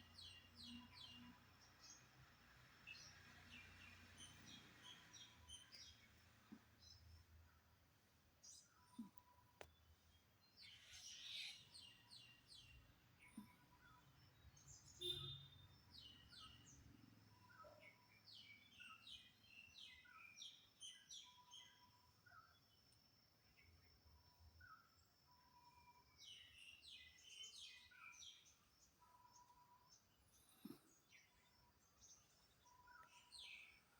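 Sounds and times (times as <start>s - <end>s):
bird chirping: 0.0s - 2.2s, 2.8s - 7.7s, 8.4s - 22.8s, 23.4s - 33.9s.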